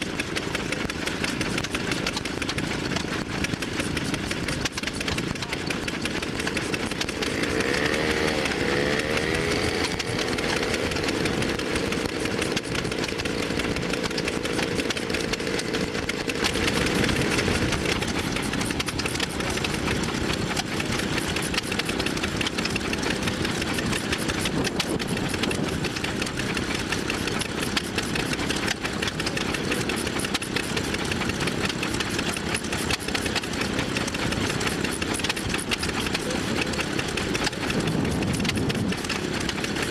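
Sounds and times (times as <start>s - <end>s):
old engines running: 0.0s - 39.9s.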